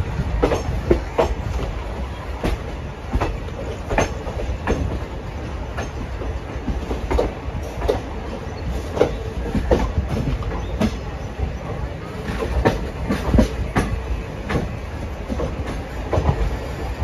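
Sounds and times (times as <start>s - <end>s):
train rumbling inside coach: 0.0s - 17.0s
wheels clicking over rail joints: 0.0s - 17.0s.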